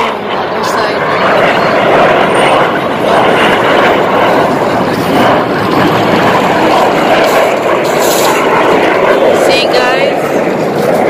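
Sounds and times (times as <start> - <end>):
jet aircraft flying past: 0.0 - 11.0.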